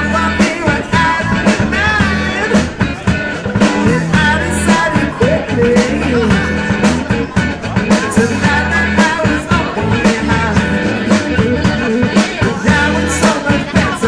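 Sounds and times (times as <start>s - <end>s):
drum beat: 0.0s - 14.0s
live rock band playing: 0.0s - 14.0s
person singing: 0.0s - 14.0s.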